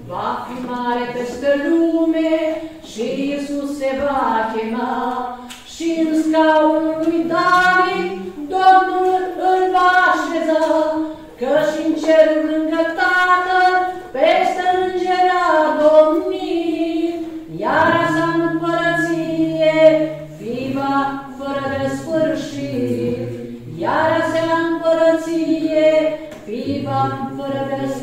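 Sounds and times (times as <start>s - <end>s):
choir singing a hymn: 0.0s - 28.0s.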